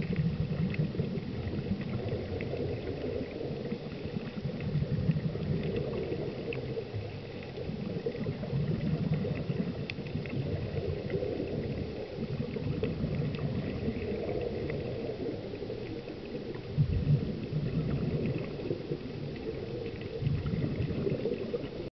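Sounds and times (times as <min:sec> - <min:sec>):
faint underwater clicks: 0:00.0 - 0:21.9
underwater rumble and swish: 0:00.0 - 0:21.9.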